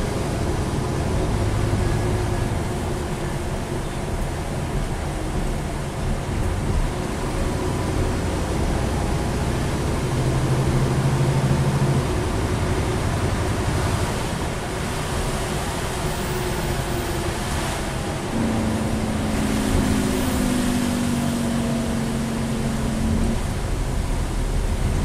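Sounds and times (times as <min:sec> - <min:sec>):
bus diesel engine: 0:00.0 - 0:25.0
road and tyre noise: 0:00.0 - 0:25.0.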